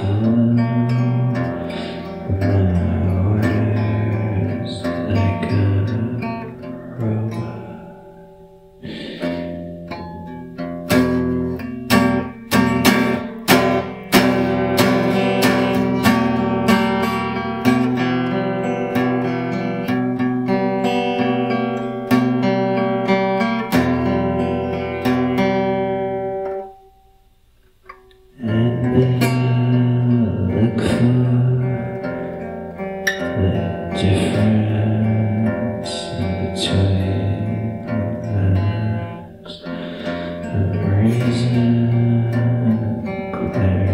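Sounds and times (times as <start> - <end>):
acoustic guitar strumming blues: 0.0 - 43.9.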